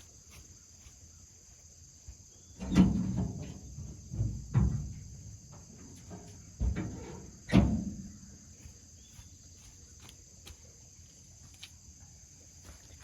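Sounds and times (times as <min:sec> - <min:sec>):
high drone of insects: 0:00.0 - 0:13.0.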